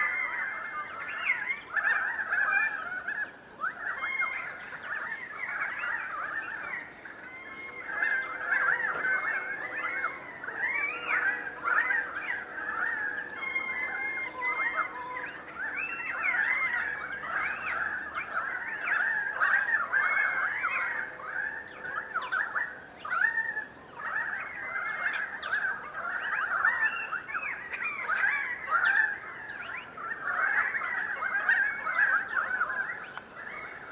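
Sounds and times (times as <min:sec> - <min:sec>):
flock of birds calling: 0:00.0 - 0:33.9.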